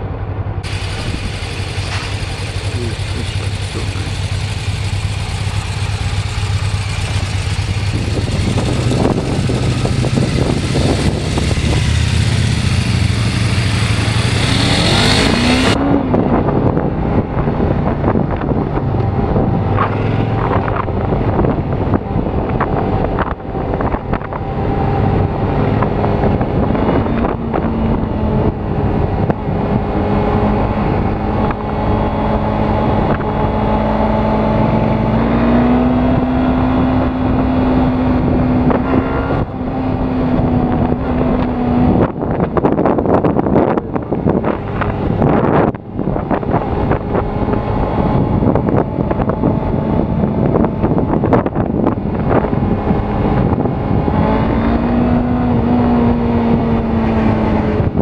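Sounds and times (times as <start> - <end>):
heavy wind noise: 0.0 - 58.0
motorcycle engine running: 0.6 - 58.0.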